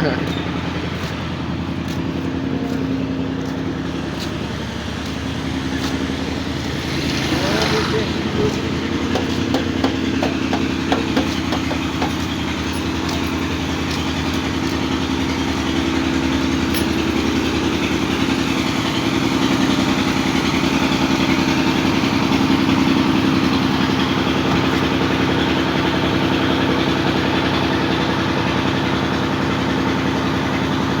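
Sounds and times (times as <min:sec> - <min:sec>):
small motorcycle engine running: 0:00.0 - 0:31.0.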